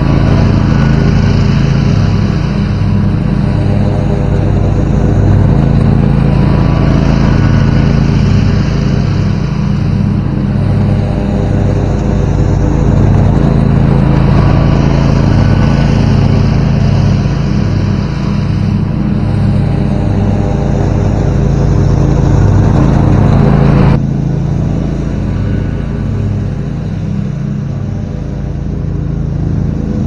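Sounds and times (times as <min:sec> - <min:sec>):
riding lawnmower engine: 0:00.0 - 0:30.0.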